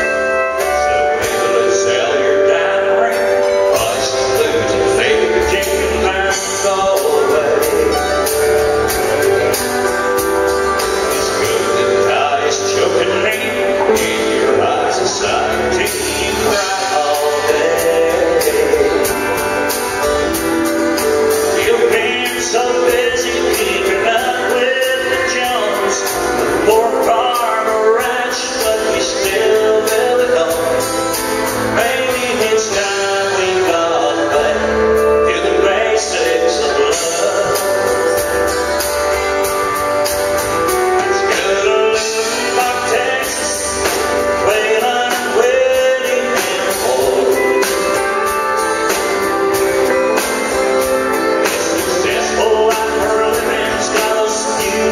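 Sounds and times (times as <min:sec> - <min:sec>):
drums: 0:00.0 - 0:54.9
man singing: 0:00.0 - 0:54.9
pedal steel guitar: 0:00.0 - 0:54.9.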